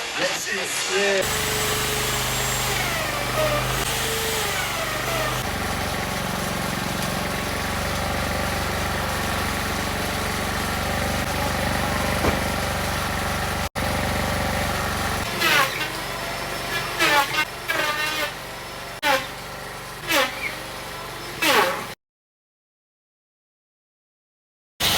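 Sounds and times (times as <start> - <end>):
power tool motor running: 1.2 - 22.0.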